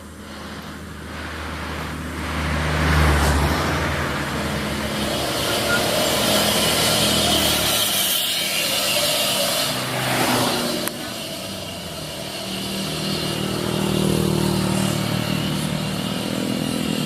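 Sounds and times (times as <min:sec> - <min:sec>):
truck engine passing: 0:00.0 - 0:17.0
tyre and road noise: 0:00.0 - 0:17.0.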